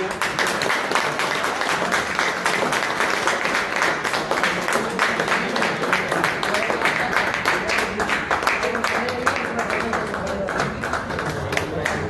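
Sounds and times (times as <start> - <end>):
people applauding: 0.0 - 12.0.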